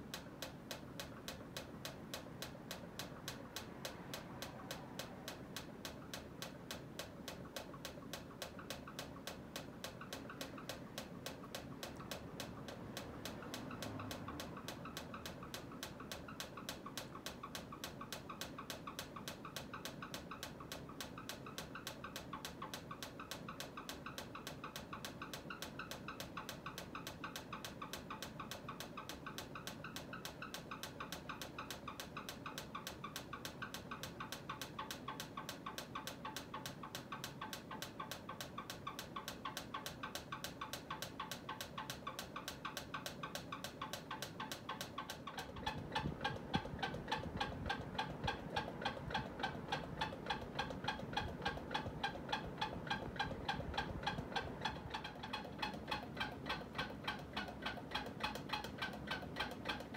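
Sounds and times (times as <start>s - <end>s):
ceiling fan humming: 0.0s - 59.9s
ceiling fan ticking: 0.0s - 59.9s.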